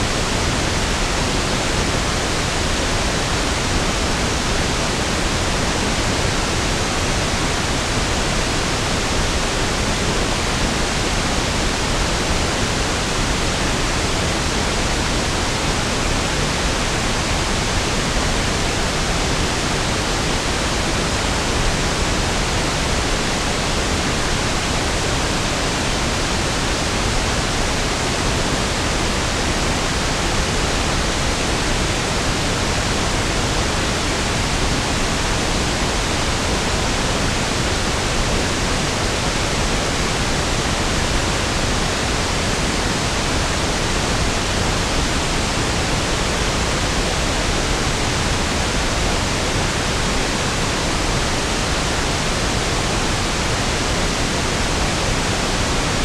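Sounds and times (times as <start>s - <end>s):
steady pink noise hiss: 0.0s - 56.0s.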